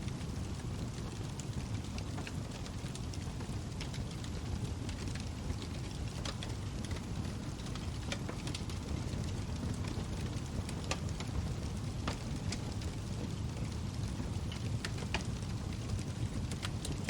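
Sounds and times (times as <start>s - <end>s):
burning wood crackling and popping: 0.0s - 17.0s
log fire rumbling: 0.0s - 17.0s.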